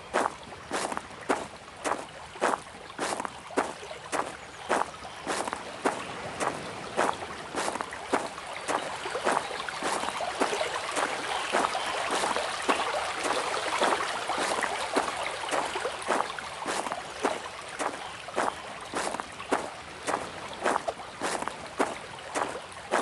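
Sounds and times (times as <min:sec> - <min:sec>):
running water with splashes: 0:00.0 - 0:23.0.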